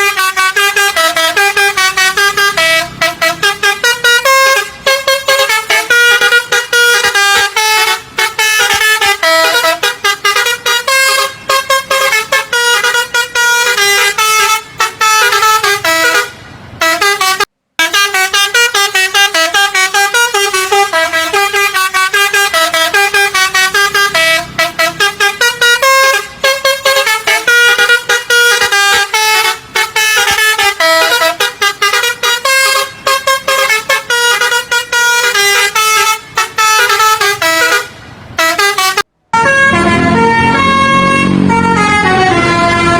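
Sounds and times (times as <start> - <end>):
multi-tone bus horn melody: 0.0 - 42.9.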